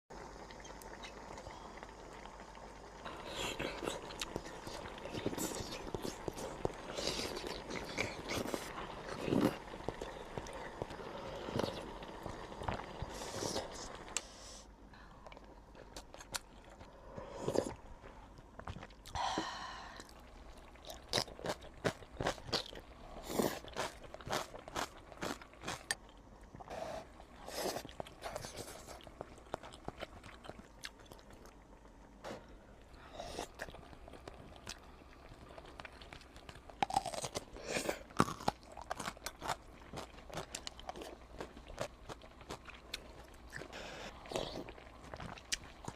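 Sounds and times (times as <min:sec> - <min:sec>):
person chewing crunchy food: 0:03.1 - 0:14.2, 0:15.3 - 0:19.2, 0:20.0 - 0:31.7, 0:32.8 - 0:45.9.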